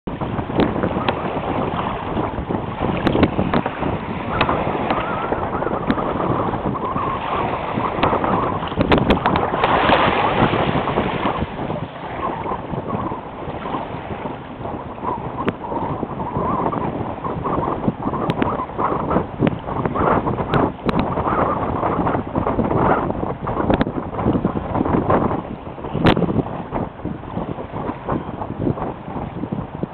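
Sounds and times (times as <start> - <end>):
wind buffeting microphone: 0.0 - 29.9
waves slapping against hull: 0.1 - 29.9.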